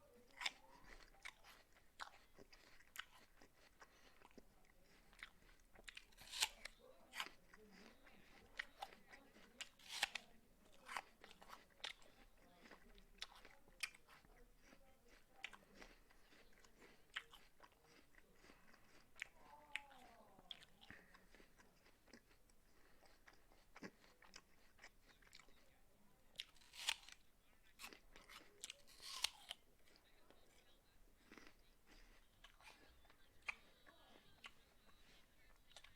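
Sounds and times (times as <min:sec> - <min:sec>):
person chewing apple: 0:00.0 - 0:35.9.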